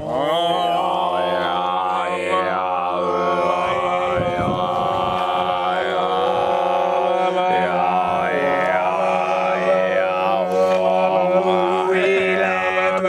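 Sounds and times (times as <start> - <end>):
chant-like overtone drone: 0.0 - 13.0.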